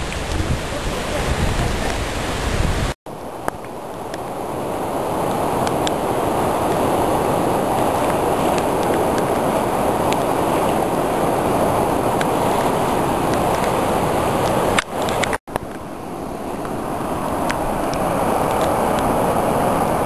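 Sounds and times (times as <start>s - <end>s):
floodwater rushing in a river: 0.0s - 20.0s.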